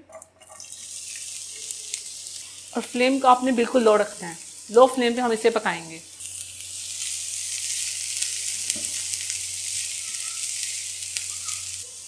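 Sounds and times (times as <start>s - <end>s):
onions sizzling in a frying pan: 0.4s - 12.0s.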